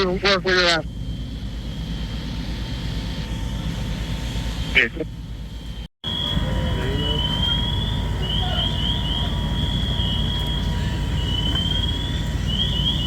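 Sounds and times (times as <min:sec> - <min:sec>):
diesel engine rumbling: 0:00.0 - 0:13.0
siren sweeping and chirping: 0:00.0 - 0:13.0.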